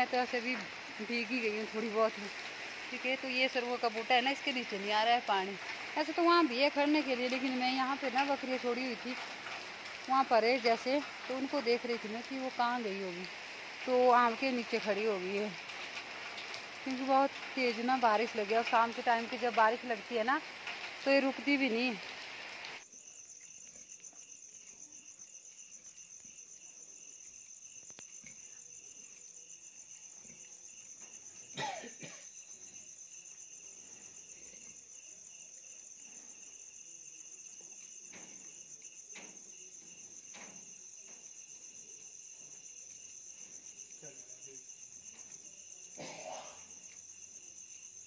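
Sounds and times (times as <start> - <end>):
crickets chirring: 0.0 - 48.0.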